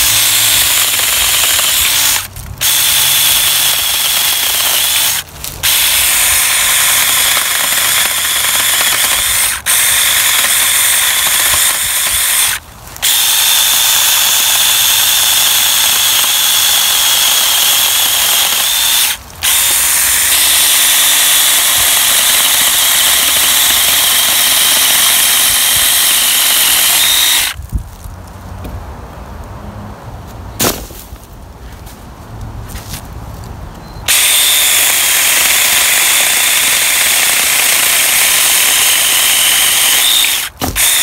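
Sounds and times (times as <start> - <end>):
cordless chainsaw cutting branch: 0.0 - 27.6, 34.1 - 41.0.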